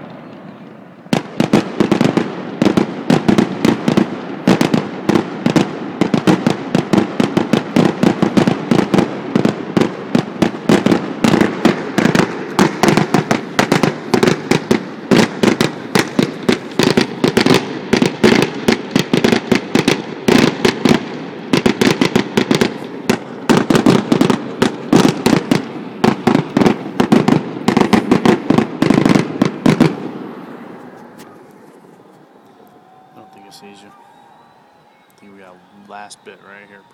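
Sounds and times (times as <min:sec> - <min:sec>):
fireworks bursting: 0:00.0 - 0:36.9.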